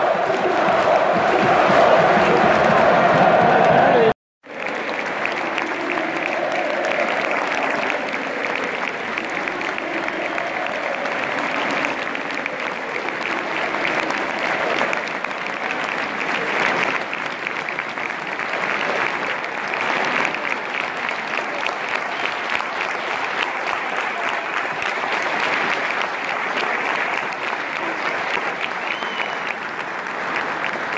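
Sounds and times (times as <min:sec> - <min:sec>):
crowd applause: 0:00.0 - 0:30.9
crowd voices: 0:00.0 - 0:30.9.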